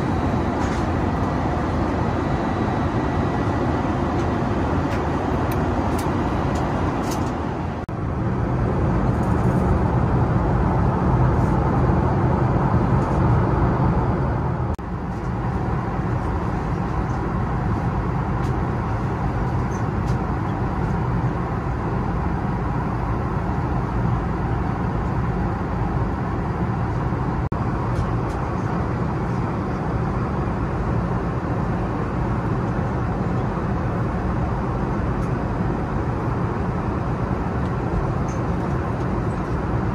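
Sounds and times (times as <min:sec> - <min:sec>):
aircraft engines and airflow rushing: 0:00.0 - 0:39.9
low cabin hum: 0:00.0 - 0:39.9.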